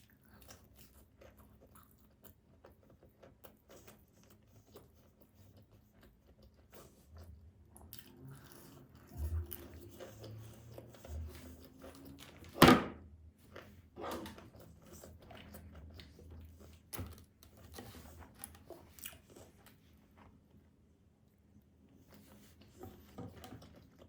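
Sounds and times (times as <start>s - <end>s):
chewing and biting pizza: 0.0s - 12.4s, 13.3s - 20.4s, 21.4s - 24.0s.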